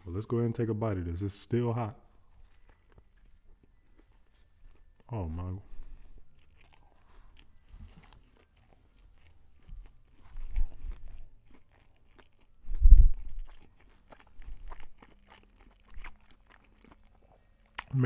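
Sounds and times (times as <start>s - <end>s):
crunchy chewing: 1.6s - 18.0s.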